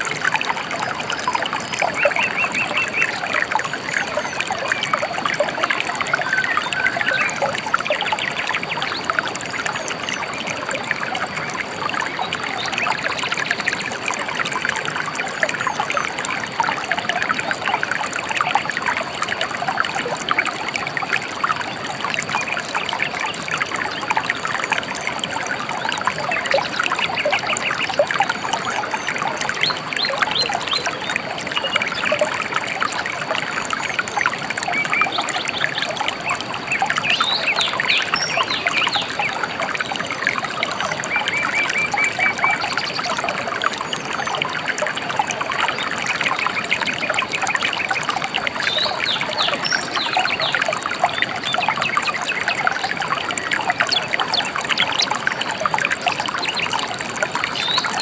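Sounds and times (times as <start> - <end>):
shallow river babbling: 0.0 - 58.0.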